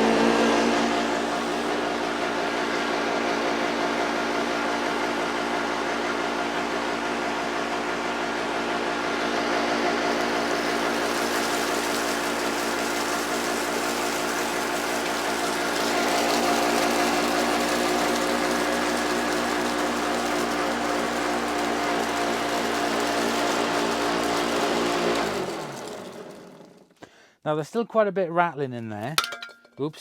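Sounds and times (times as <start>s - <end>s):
upright vacuum cleaner running: 0.0s - 26.9s.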